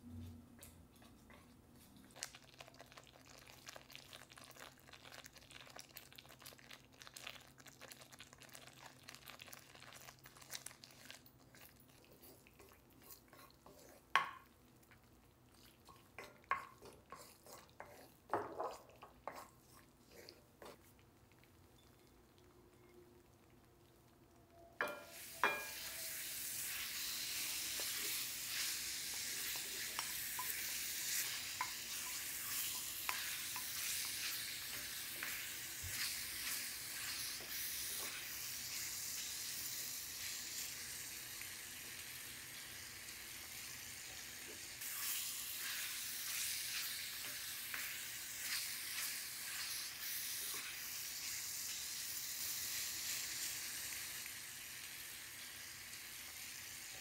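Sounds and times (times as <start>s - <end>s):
food sizzling in a pan: 0.6s - 21.0s, 24.5s - 57.0s.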